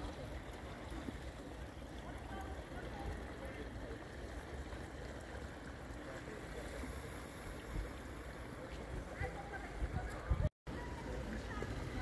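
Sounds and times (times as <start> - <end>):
water flowing over rocks: 0.0 - 12.0.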